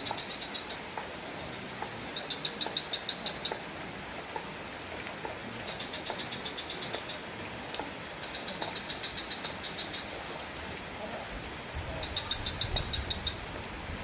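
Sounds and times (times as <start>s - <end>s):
steady rain falling: 0.0s - 14.0s
water drips: 0.0s - 14.0s.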